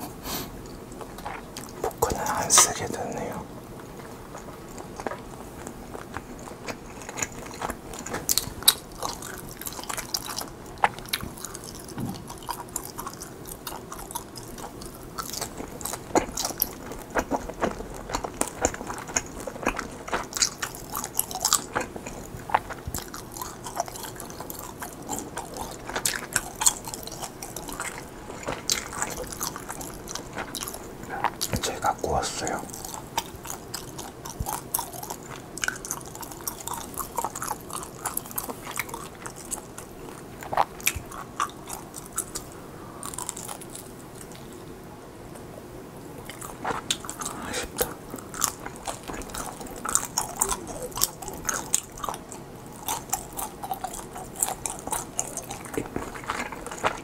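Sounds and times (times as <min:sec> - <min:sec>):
close chewing mouth clicks: 0:00.6 - 0:03.3, 0:04.0 - 0:44.6, 0:46.2 - 0:57.0.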